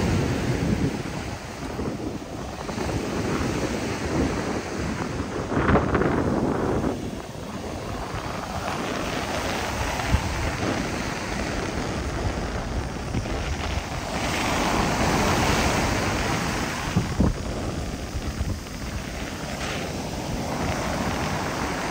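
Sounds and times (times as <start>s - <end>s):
surf breaking on beach: 0.0s - 21.9s
wind buffeting microphone: 0.0s - 21.9s.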